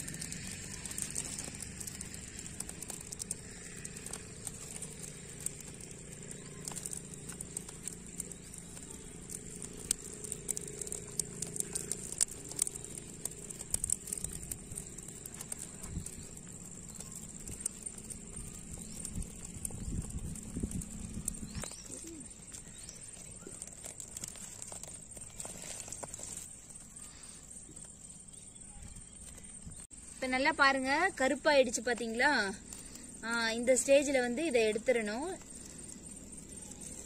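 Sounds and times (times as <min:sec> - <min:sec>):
grain heads popping in flames: 0:00.0 - 0:37.0
wood fire crackling: 0:00.0 - 0:37.0.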